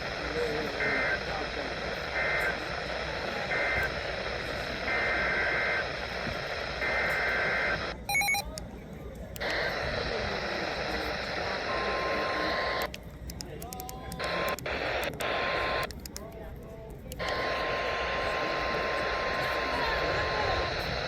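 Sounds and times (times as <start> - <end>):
radio static: 0.0 - 21.0.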